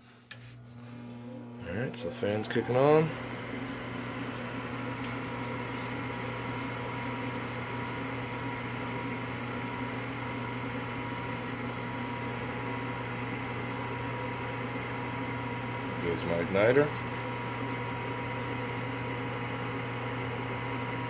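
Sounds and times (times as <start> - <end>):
furnace fan humming with whine: 0.0 - 21.0.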